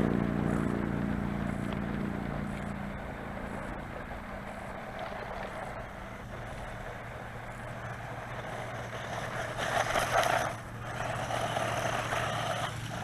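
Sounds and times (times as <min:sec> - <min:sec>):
toy truck electric motor hum: 0:02.5 - 0:13.0.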